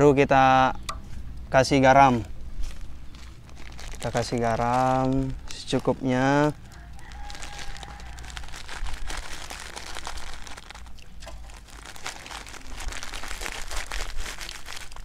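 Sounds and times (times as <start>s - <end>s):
plastic crinkling: 2.6s - 15.0s.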